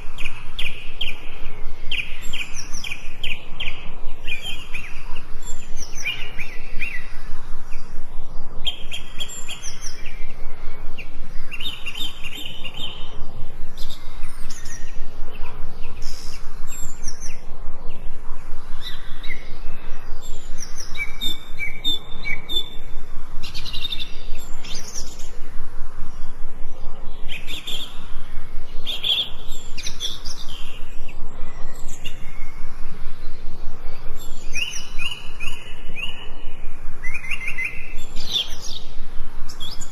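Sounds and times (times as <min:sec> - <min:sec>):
faint background hiss: 0:00.0 - 0:39.9
songbirds chirping and singing: 0:00.0 - 0:39.9.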